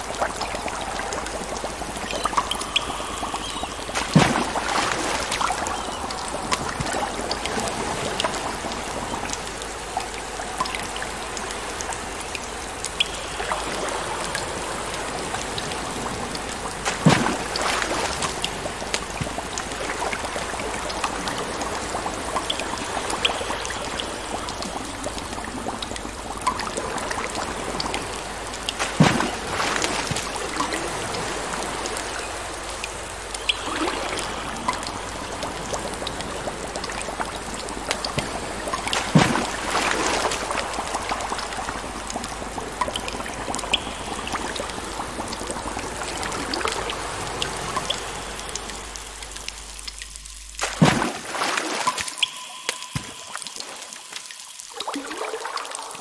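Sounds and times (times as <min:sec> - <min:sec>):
trickling running water: 0:00.0 - 0:56.0.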